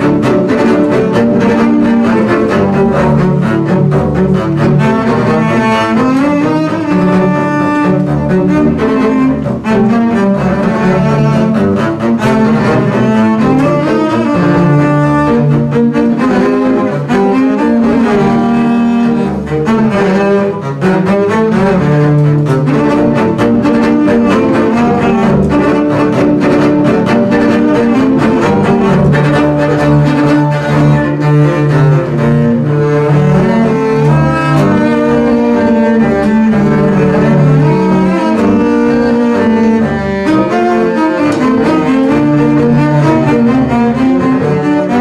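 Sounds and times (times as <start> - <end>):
bowed double basses playing: 0.0 - 45.0.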